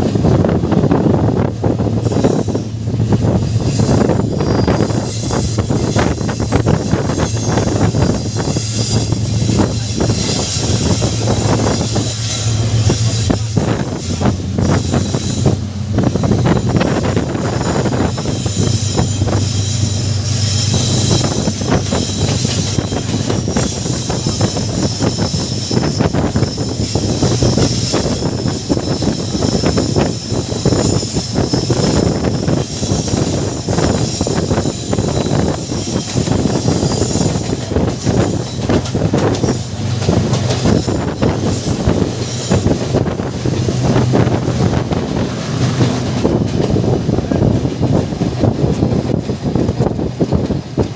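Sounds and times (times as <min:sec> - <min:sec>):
low train rumble: 0:00.0 - 0:50.9
train wheels clattering on track: 0:00.0 - 0:50.9
high-pitched wheel squeal: 0:02.0 - 0:49.0.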